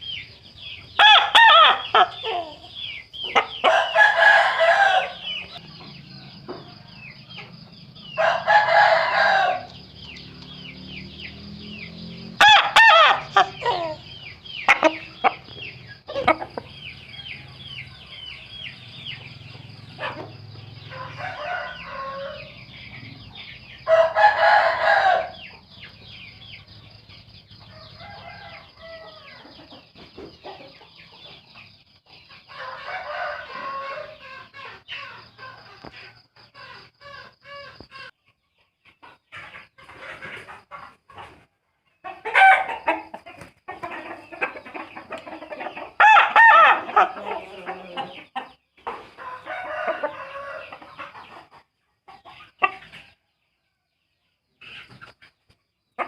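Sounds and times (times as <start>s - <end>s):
roosters crowing: 0.0s - 30.9s, 32.2s - 38.1s, 39.7s - 51.5s.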